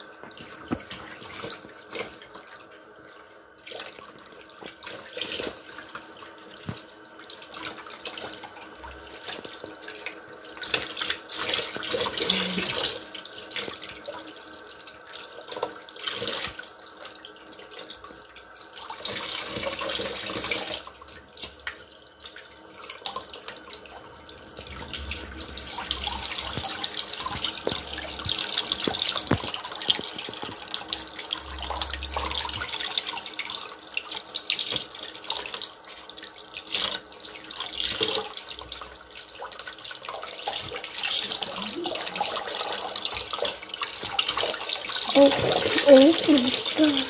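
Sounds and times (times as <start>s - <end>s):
tap water splashing into basin: 0.2s - 2.6s, 3.6s - 14.3s, 15.2s - 47.0s.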